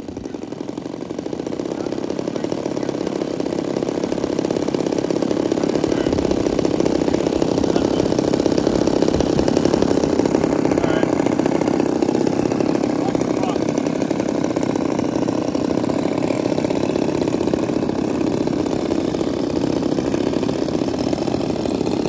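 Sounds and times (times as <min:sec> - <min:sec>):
small two-stroke engine running: 0:00.0 - 0:22.0.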